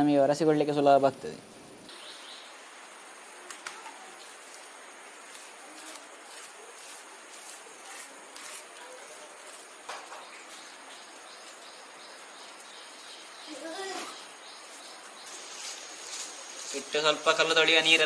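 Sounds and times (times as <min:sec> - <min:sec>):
steady quiet hiss: 0:00.0 - 0:18.0.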